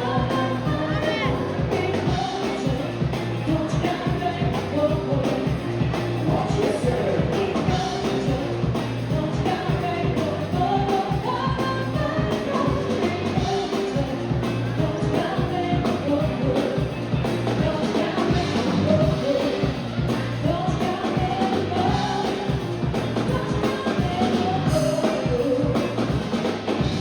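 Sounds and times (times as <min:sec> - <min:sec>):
person singing: 0:00.0 - 0:26.3
live band playing pop-rock: 0:00.0 - 0:27.0.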